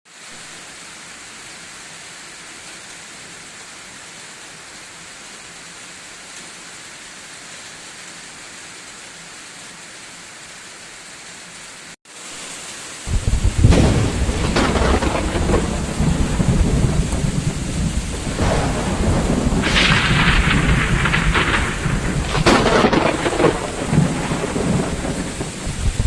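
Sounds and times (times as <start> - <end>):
heavy rain falling: 0.1 - 26.0.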